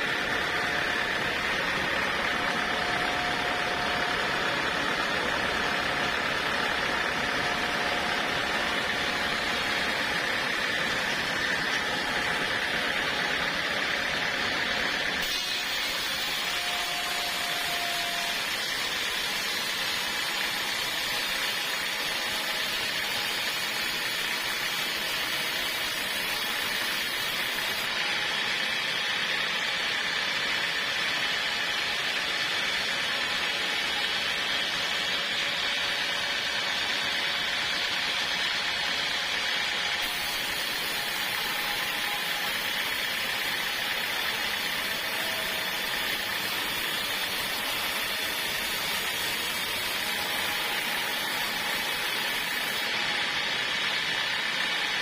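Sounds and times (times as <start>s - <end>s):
portable sawmill running: 0.0s - 55.0s.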